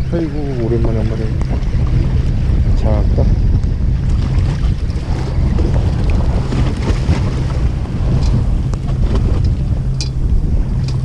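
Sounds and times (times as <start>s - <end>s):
boat engine humming: 0.0s - 11.0s
water washing around hull: 0.0s - 11.0s
wind buffeting microphone: 0.0s - 11.0s.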